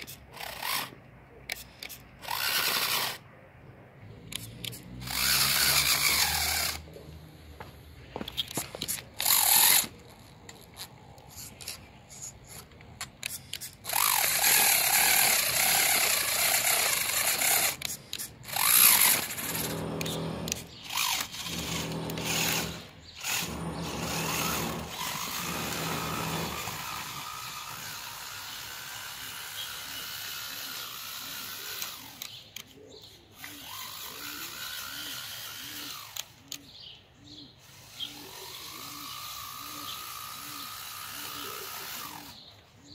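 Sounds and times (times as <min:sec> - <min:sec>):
toy truck motors whining: 0:00.0 - 0:03.3, 0:04.1 - 0:36.8, 0:37.6 - 0:42.6.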